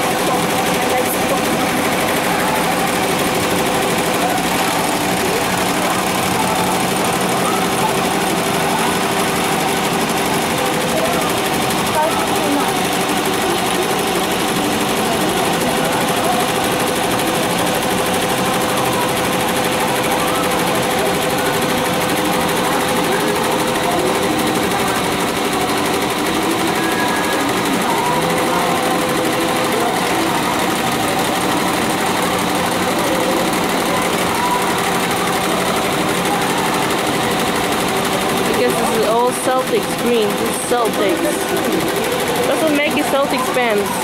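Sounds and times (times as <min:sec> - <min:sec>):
embroidery machine needle clatter: 0:00.0 - 0:44.0.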